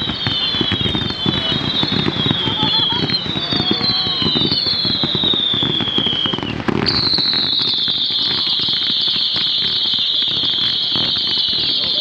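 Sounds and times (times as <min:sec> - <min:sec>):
fireworks bangs and crackling: 0:00.0 - 0:12.0
fireworks whistles falling in pitch: 0:00.0 - 0:12.0.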